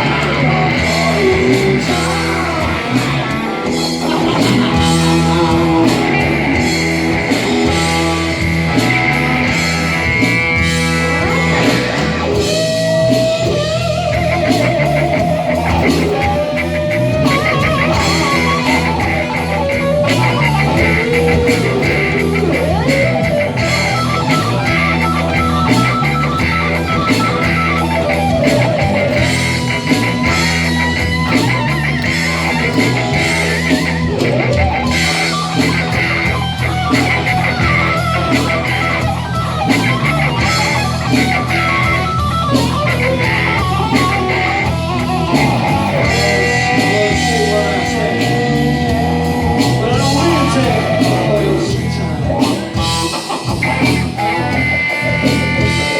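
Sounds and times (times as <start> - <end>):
bass line: 0.0 - 55.9
drums: 0.0 - 55.9
electric guitar: 0.0 - 55.9.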